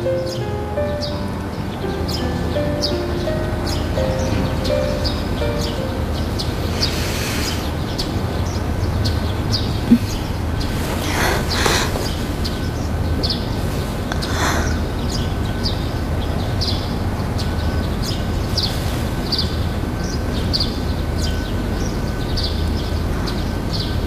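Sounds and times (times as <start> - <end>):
birds chirping: 0.0 - 24.0
low background hum: 0.0 - 24.0.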